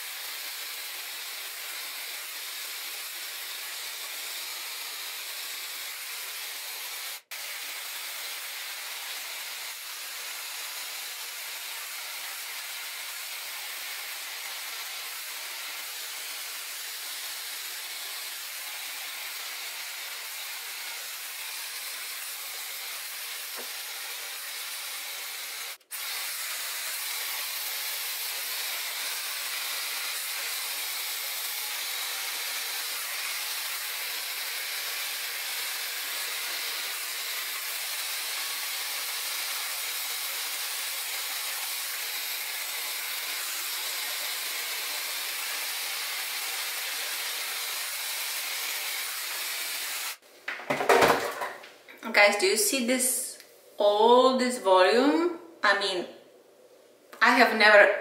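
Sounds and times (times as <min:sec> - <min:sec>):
hair dryer blowing: 0:00.0 - 0:50.2.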